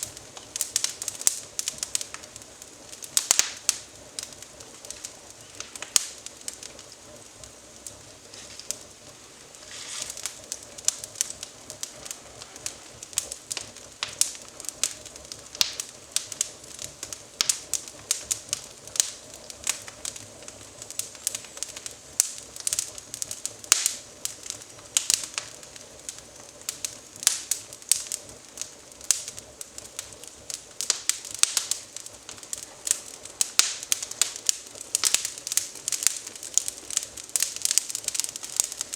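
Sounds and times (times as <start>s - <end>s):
twig fire crackling and popping: 0.0s - 38.9s.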